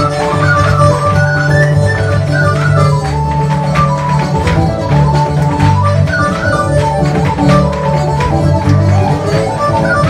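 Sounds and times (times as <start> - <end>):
fiddle playing: 0.0 - 10.0
plucked strings: 0.0 - 10.0.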